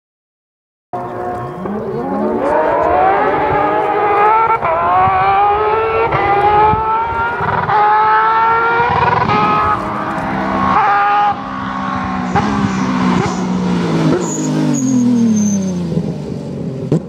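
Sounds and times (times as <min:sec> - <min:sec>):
rally car engine accelerating: 0:01.0 - 0:17.0.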